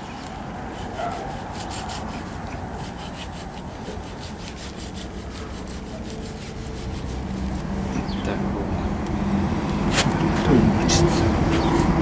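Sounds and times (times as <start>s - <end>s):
knife sawing through meat and bone: 0.0s - 8.3s, 9.9s - 12.0s.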